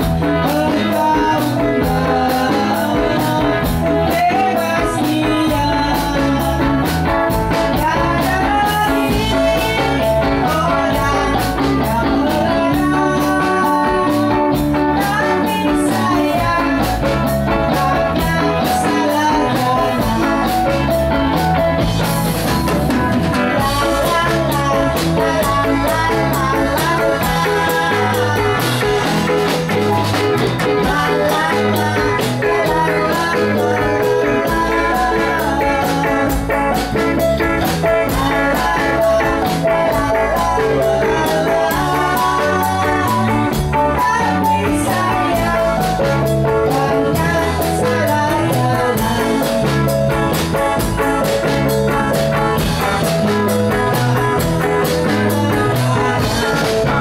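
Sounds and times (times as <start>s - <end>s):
bass line: 0.0s - 57.0s
drum kit: 0.0s - 57.0s
electric guitar: 0.0s - 57.0s.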